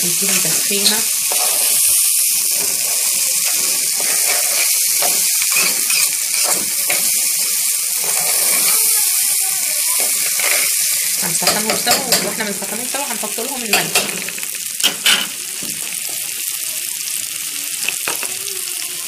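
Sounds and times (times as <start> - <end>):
rice and lentils sizzling in oil: 0.0 - 19.0.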